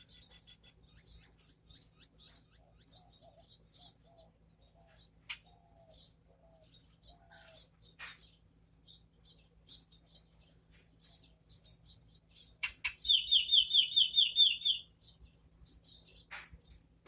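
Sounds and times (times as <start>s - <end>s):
pet birds chirping: 0.0s - 16.8s.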